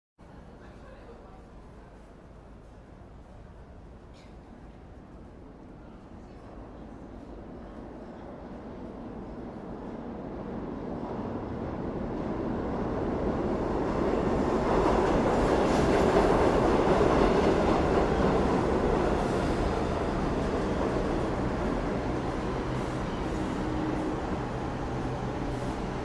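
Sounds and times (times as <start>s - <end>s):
subway train rumbling: 0.2s - 26.0s.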